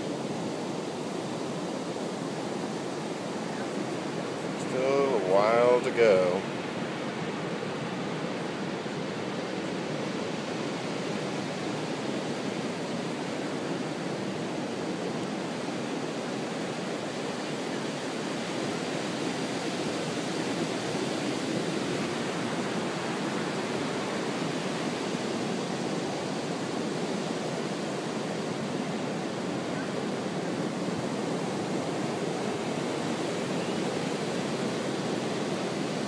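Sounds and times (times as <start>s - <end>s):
ocean surf breaking: 2.3s - 36.0s.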